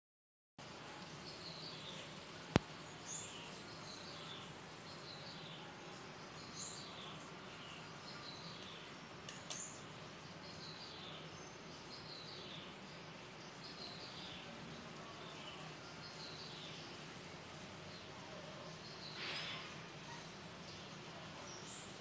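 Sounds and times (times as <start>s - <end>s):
small birds chirping: 0.6s - 22.0s.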